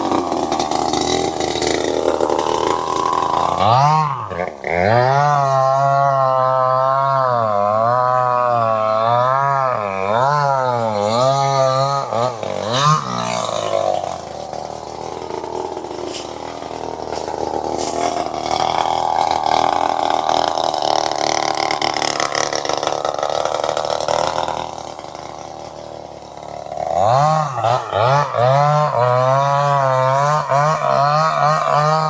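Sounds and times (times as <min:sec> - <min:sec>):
chainsaw engine revving: 0:00.0 - 0:32.0.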